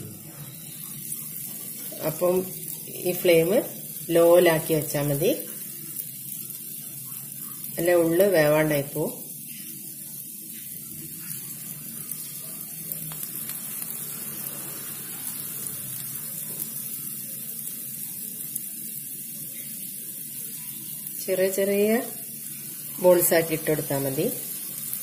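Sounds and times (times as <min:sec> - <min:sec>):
batter deep-frying in oil: 0:00.0 - 0:25.0.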